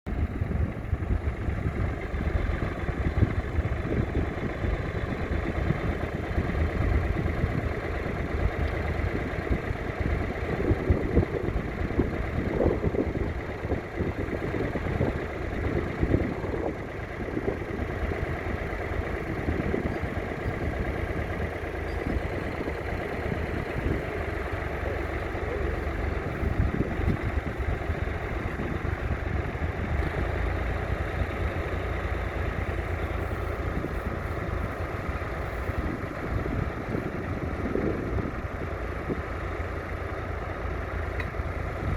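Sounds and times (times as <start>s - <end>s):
diesel engine chugging: 0.1s - 41.9s.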